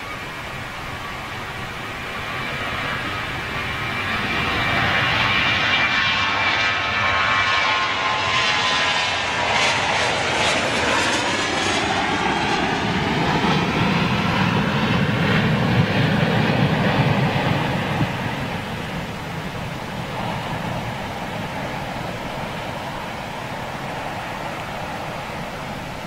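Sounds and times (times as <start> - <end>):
jet airliner taking off: 0.0 - 26.0.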